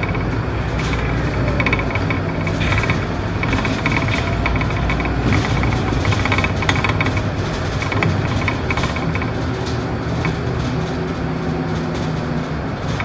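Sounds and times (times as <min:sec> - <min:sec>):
bus diesel engine running: 0:00.0 - 0:13.0
interior fittings rattling: 0:00.0 - 0:13.0.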